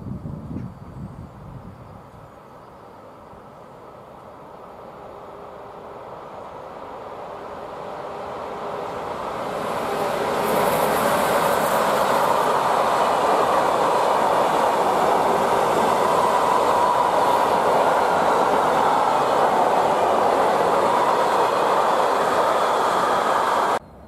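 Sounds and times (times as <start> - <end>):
train wheels rushing on rails: 2.9 - 23.8.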